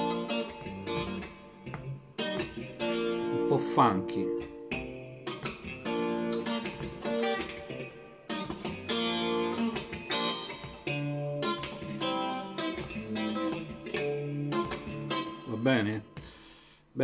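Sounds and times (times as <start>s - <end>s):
clean electric guitar chords: 0.0s - 16.3s.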